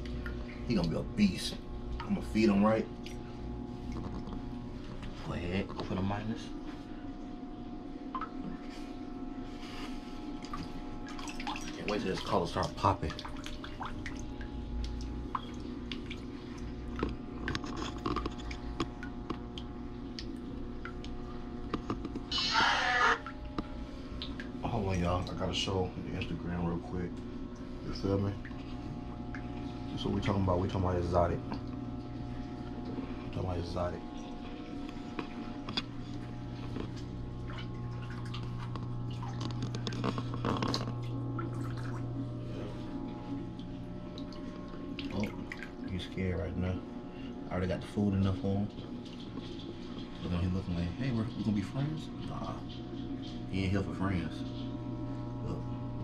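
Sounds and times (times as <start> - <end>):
water clicks and drips: 0.0 - 1.1, 1.8 - 6.0, 8.1 - 8.7, 10.4 - 22.3, 23.2 - 46.2, 48.6 - 53.8
aquarium equipment humming: 0.0 - 56.0.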